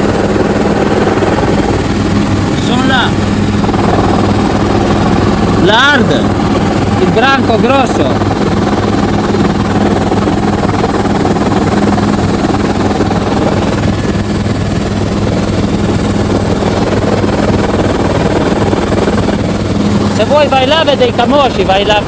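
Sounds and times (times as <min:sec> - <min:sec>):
helicopter rotor and engine drone: 0:00.0 - 0:22.0.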